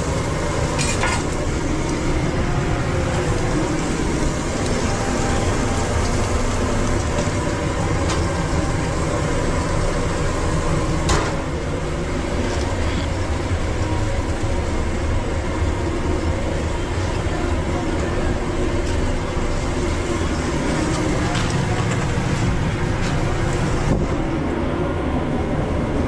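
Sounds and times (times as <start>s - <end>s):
kitchen equipment drone: 0.0s - 26.0s.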